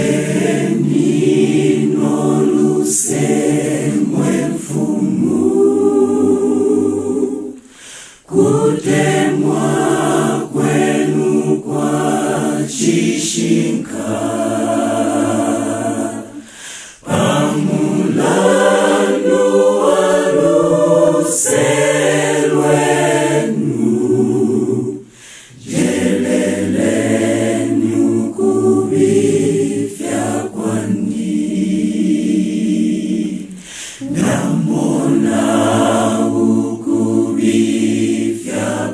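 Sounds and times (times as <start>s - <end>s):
choir singing unaccompanied: 0.0s - 38.9s.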